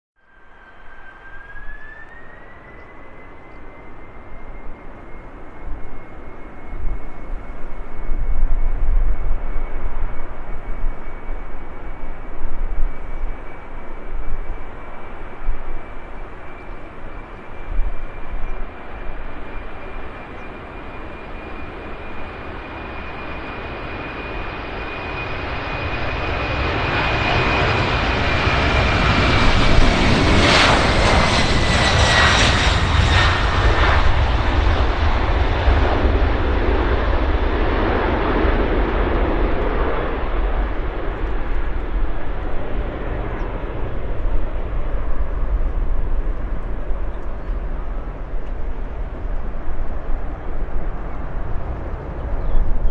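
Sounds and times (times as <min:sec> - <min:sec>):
jet airliner passing: 0:00.2 - 0:52.9.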